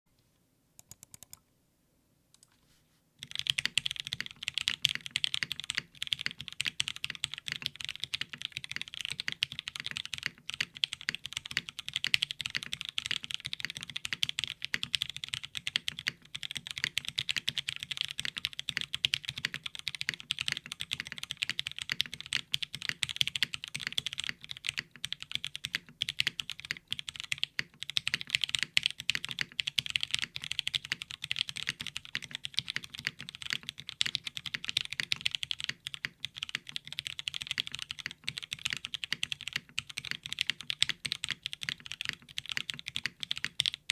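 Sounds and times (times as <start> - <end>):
mechanical keyboard typing: 0.8 - 1.4, 3.2 - 43.9.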